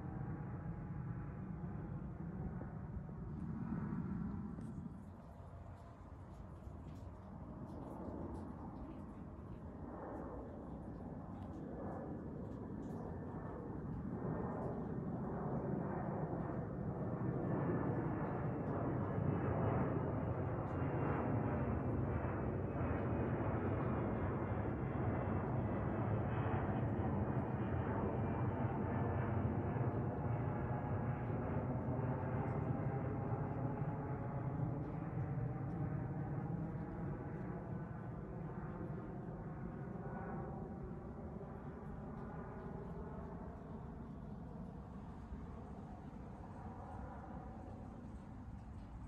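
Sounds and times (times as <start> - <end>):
jet engines rumbling overhead: 0.0 - 49.0.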